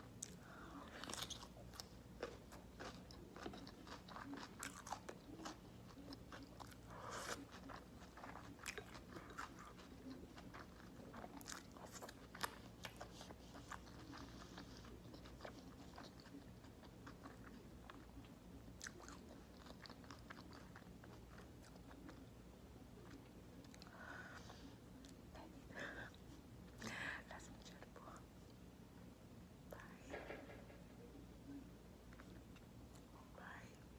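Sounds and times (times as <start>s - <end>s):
chewing with crisp crunches: 0.0s - 28.2s.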